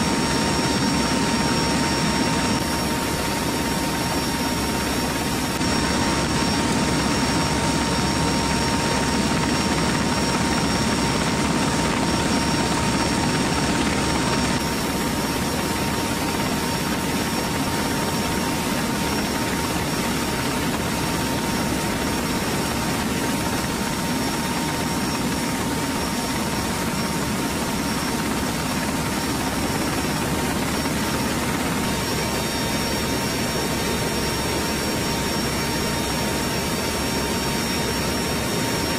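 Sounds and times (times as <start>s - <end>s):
turboprop engines roaring: 0.0s - 38.9s.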